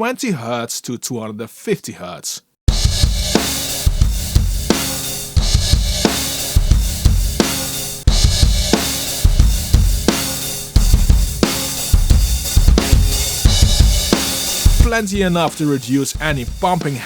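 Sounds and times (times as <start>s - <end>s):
drum kit beat: 2.7s - 17.0s.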